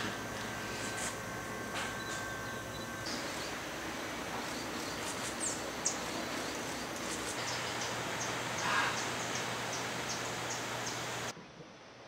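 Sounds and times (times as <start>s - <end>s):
steady forest hiss: 0.0s - 12.0s.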